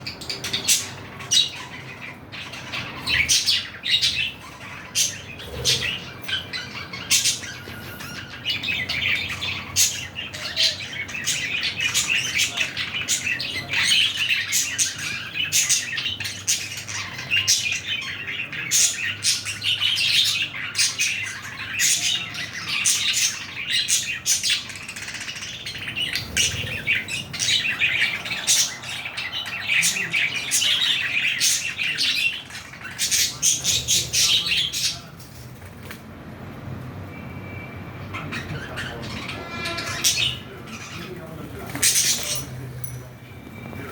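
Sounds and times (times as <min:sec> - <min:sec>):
budgerigars chattering and chirping: 0:00.0 - 0:36.0, 0:37.8 - 0:43.9.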